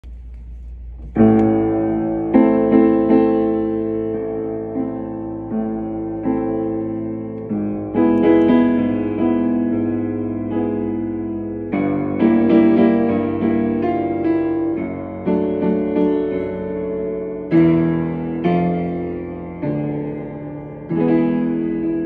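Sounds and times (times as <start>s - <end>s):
piano chords: 0.0s - 22.0s.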